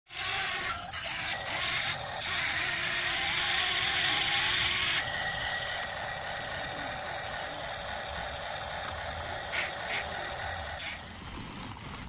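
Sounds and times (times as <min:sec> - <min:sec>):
toy electric gear motors whirring: 0:00.1 - 0:12.0.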